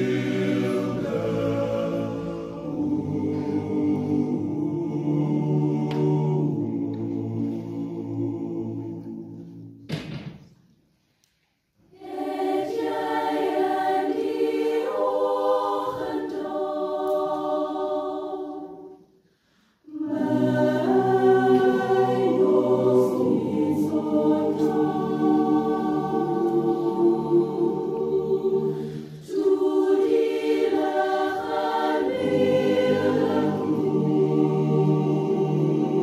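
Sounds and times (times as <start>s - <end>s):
choir singing: 0.0s - 9.9s, 11.9s - 36.0s.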